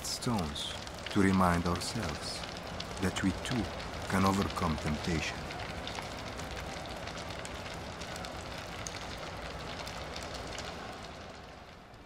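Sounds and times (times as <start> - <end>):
din of a vast crowd: 0.0 - 12.0.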